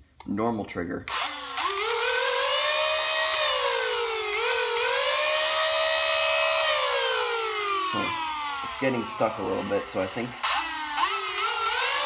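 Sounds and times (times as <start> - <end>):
flywheel motors whining: 1.1 - 12.0.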